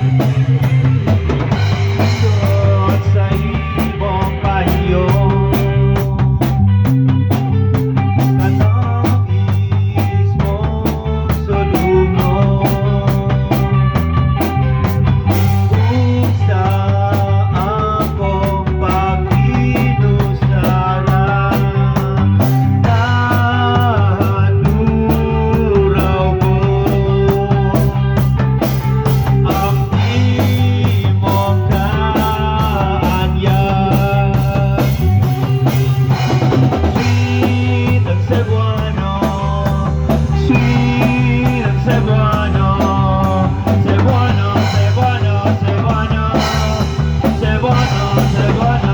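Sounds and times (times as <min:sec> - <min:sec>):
live rock band playing: 0:00.0 - 0:48.9.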